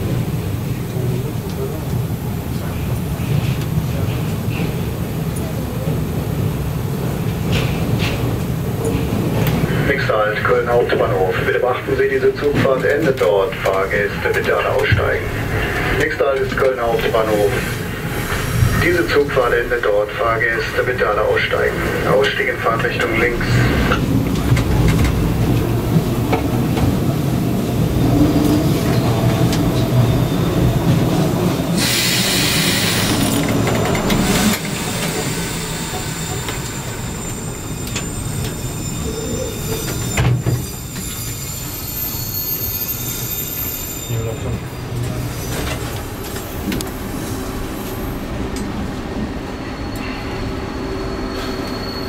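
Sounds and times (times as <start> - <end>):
train rumbling over rails: 0.0 - 52.0.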